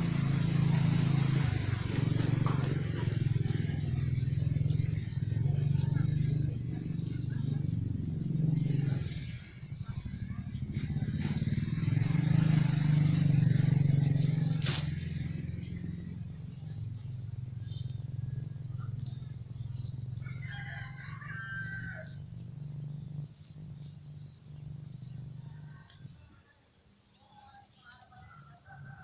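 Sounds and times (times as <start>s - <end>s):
motor engine humming: 0.0s - 26.3s
high insect whine: 0.0s - 29.0s.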